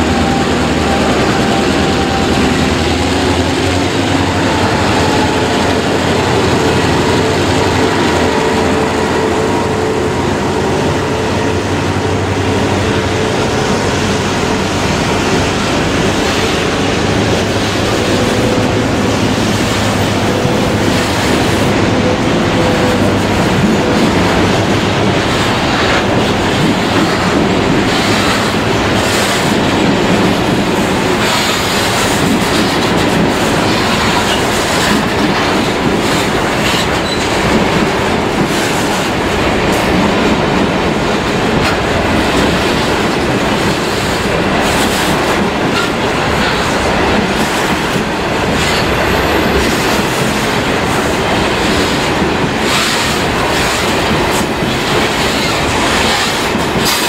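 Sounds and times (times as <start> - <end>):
rumble of train wheels on rail: 0.0 - 57.0.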